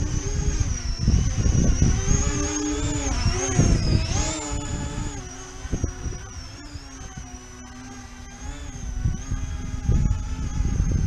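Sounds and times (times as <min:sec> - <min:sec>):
model aircraft propellers whining: 0:00.0 - 0:11.0
wind buffeting microphone: 0:00.0 - 0:11.0.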